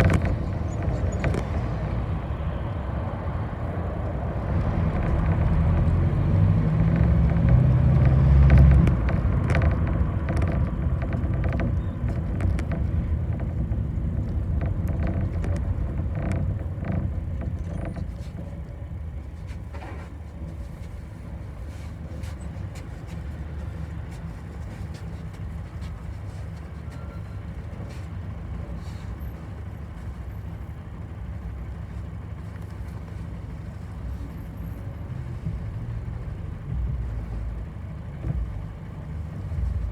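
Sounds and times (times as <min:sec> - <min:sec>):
rattles and clicks: 0:00.0 - 0:02.7, 0:03.6 - 0:39.9
bus engine rumble: 0:00.0 - 0:39.9.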